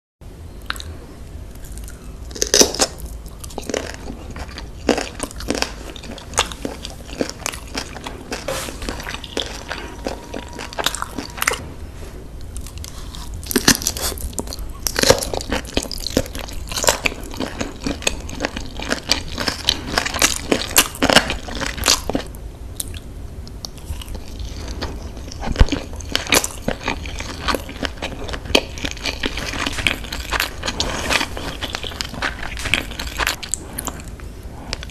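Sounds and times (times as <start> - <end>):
person chewing food: 1.5 - 11.7, 12.5 - 23.0, 23.6 - 34.9.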